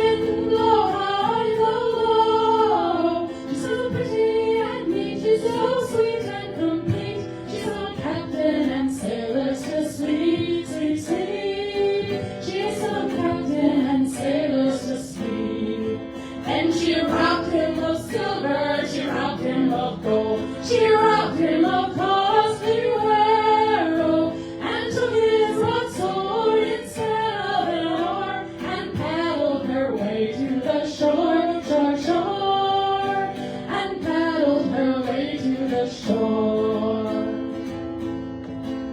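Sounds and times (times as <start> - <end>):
women singing in harmony: 0.0 - 37.7.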